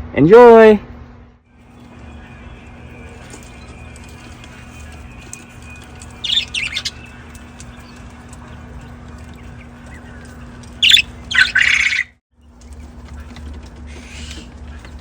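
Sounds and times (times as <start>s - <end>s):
steady low hum: 0.0s - 15.0s
faint bird chirping: 1.5s - 15.0s
budgerigar squawks: 1.8s - 12.1s, 13.1s - 15.0s.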